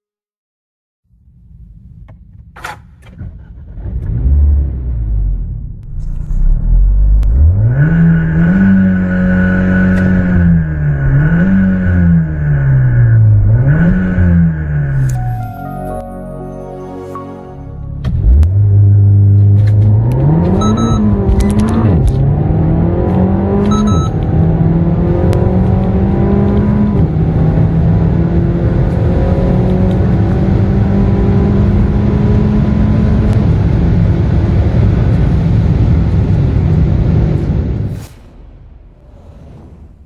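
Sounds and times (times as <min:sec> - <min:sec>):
car engine accelerating through gears: 0:03.1 - 0:15.2, 0:17.8 - 0:38.1.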